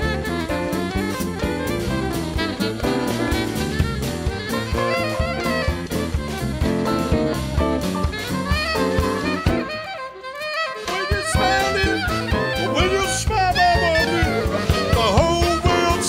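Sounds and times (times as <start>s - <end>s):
jazz band playing: 0.0s - 16.0s
saxophone melody: 0.0s - 16.0s.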